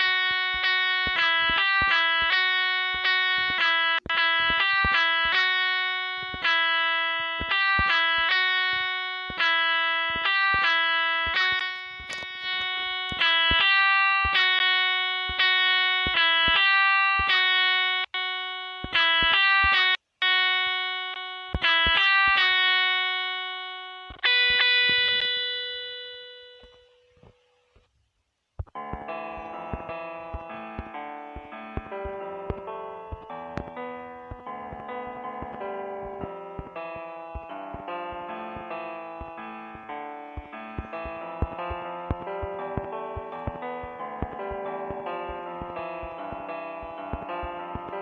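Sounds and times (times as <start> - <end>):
plucked guitar-like melody: 0.0 - 27.2, 28.6 - 48.0.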